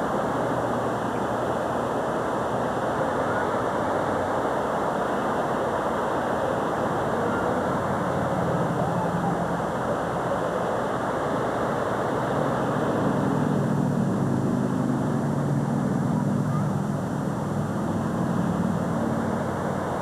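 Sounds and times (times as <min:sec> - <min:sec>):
low engine hum: 0:00.0 - 0:20.0
surf rushing: 0:00.0 - 0:20.0
wind: 0:00.0 - 0:20.0.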